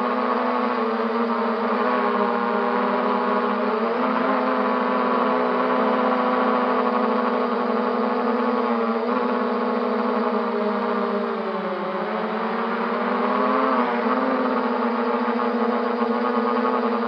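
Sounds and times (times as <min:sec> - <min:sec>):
quadcopter propellers whining: 0:00.0 - 0:17.0.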